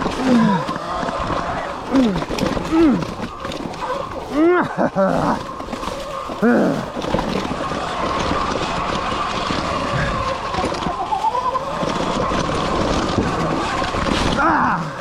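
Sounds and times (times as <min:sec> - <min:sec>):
bike rattling over rough trail: 0:00.0 - 0:15.0.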